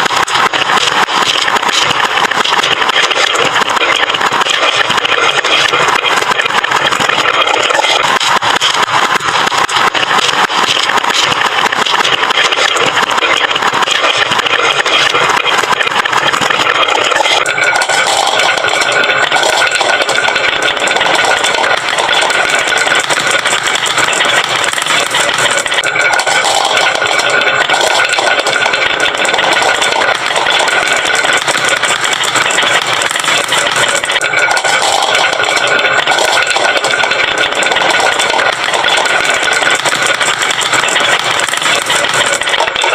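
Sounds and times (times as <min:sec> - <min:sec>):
marbles rattling down wooden slopes: 0:00.0 - 0:42.9.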